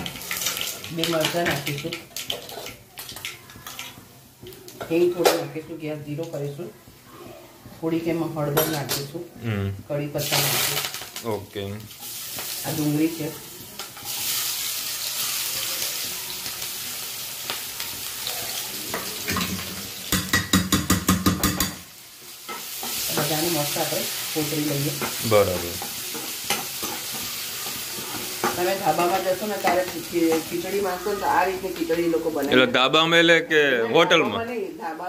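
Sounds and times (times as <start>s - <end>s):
onion sizzling in hot oil: 0.0s - 35.0s.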